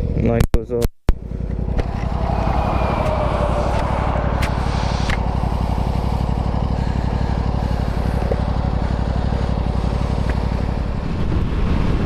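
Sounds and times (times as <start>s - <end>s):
motorcycle engine running: 1.1s - 12.0s.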